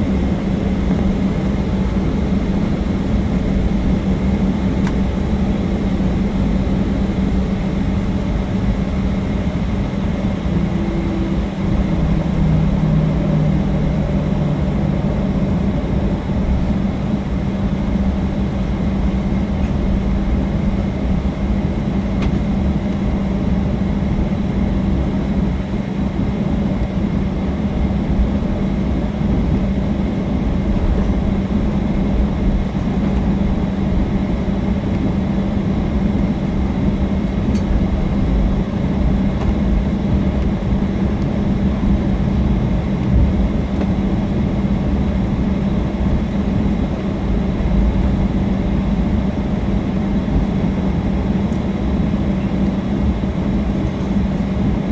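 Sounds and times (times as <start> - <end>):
jet engines idling: 0.0 - 54.9.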